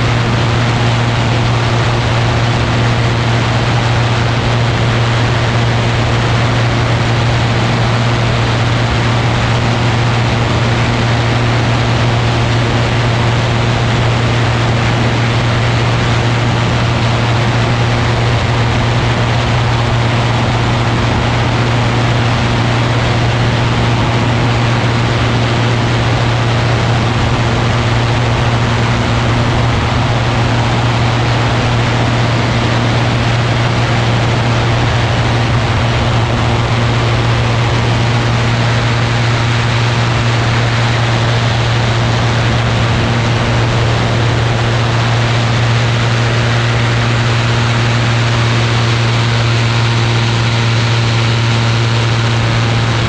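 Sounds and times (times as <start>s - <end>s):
aircraft engine drone: 0.0s - 53.0s
rush of wind: 0.0s - 53.0s.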